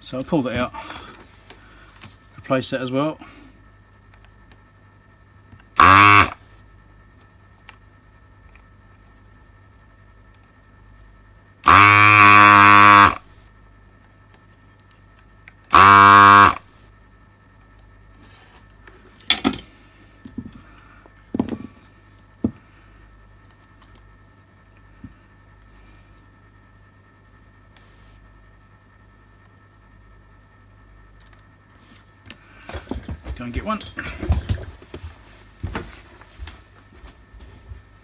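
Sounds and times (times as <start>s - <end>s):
desoldering vacuum pump buzzing: 0.0s - 38.0s.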